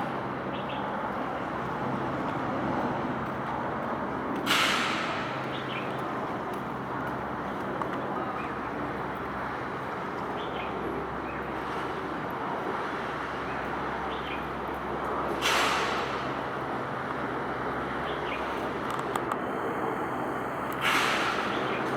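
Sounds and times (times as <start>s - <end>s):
road traffic rumble: 0.0s - 21.9s.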